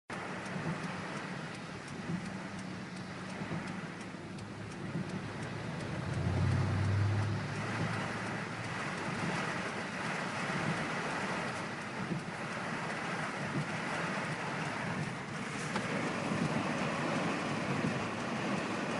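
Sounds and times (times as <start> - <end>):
low vehicle hum: 0.1 - 18.9
rain drumming on a car: 0.1 - 18.9.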